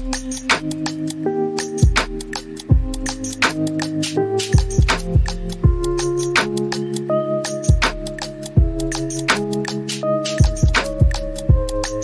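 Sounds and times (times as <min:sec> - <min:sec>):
held chords: 0:00.0 - 0:12.0
steady drum beat: 0:00.0 - 0:12.0.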